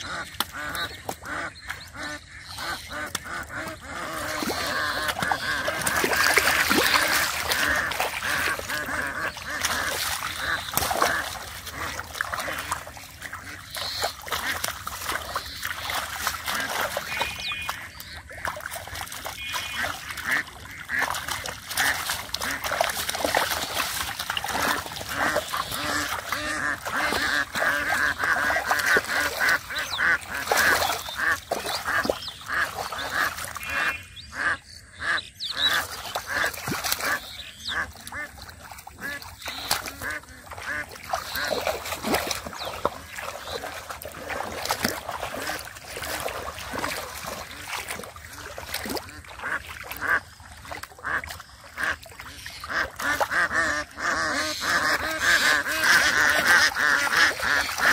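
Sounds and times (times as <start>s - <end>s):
ducks quacking: 0.0s - 57.9s.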